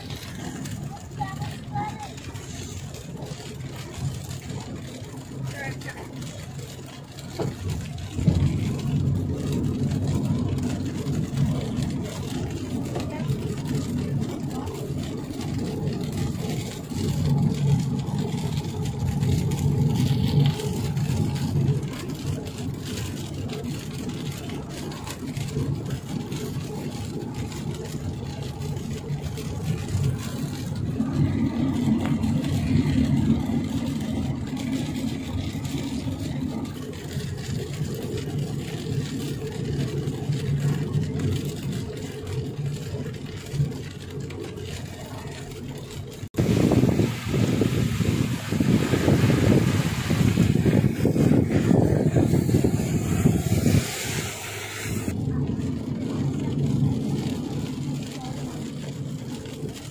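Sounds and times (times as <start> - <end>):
car engine and tyres on wet road: 0.0 - 59.9.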